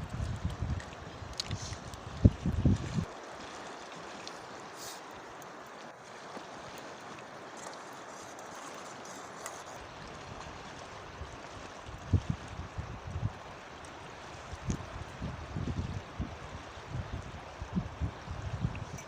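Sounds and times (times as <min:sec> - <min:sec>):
river flowing: 0:00.0 - 0:19.0.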